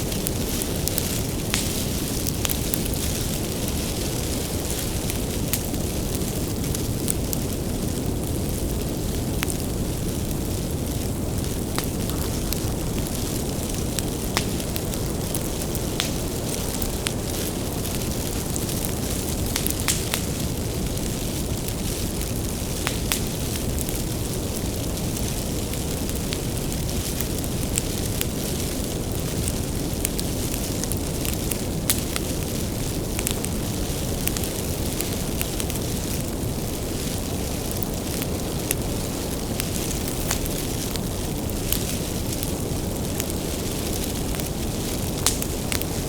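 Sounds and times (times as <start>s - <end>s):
bonfire crackling and popping: 0.0s - 46.0s.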